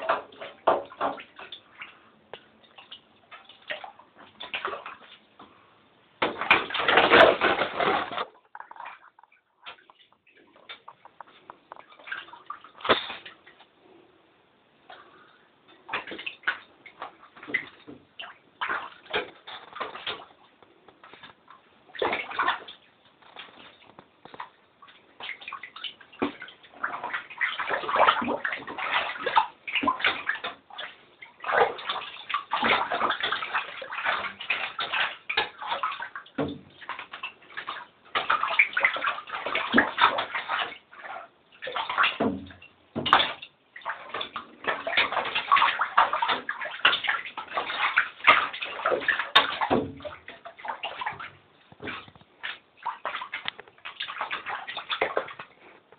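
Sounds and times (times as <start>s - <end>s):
water splashing and sloshing: 0.0s - 55.9s.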